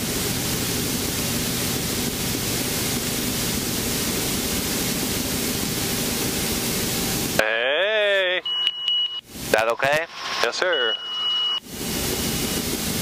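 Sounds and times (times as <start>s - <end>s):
helicopter cockpit rushing noise: 0.0s - 8.4s, 9.3s - 13.0s.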